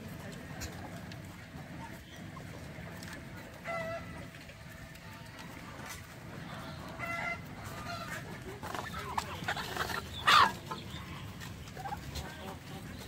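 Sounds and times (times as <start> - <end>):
fowl clucking and calling: 0.4 - 4.6, 6.5 - 13.0.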